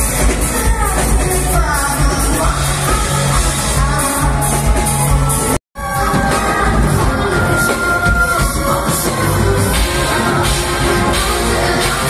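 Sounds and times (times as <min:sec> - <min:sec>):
live rock music with band: 0:00.0 - 0:12.0.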